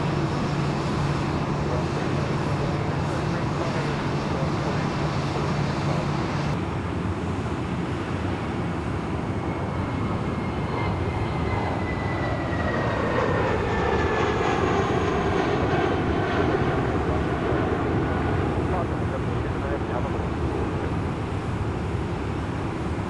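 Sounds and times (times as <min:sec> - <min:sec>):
another jet engine noise: 0:00.0 - 0:23.0
jet engines climbing: 0:00.0 - 0:23.0.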